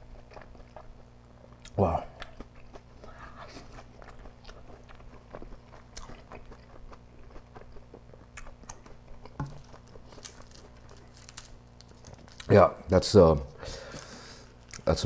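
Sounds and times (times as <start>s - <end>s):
faint low hum: 0.0s - 15.0s
wet mouth chewing: 0.1s - 12.5s.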